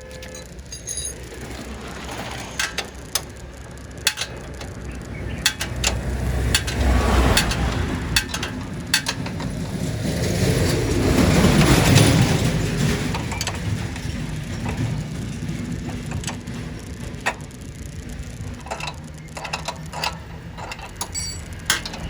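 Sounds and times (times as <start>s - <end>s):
sharp metallic clicks and knocks: 0.0s - 22.0s
vehicle engine rumbling: 0.0s - 22.0s.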